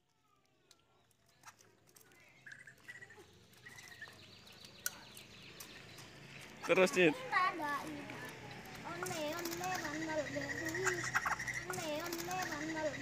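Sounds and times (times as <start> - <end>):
bird calls with falling notes: 0.8 - 13.0.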